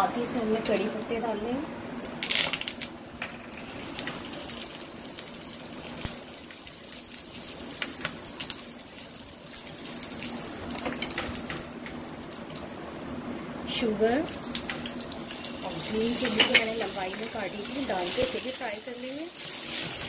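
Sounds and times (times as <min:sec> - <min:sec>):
seeds sizzling in hot oil: 0:03.2 - 0:20.0.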